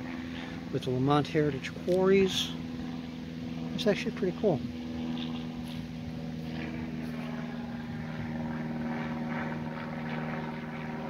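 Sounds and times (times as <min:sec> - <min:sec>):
propeller airplane engine drone: 0:00.0 - 0:11.0.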